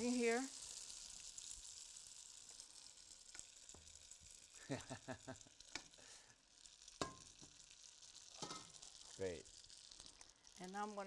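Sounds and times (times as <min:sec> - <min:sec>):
hot pan sizzling: 0:00.0 - 0:11.0.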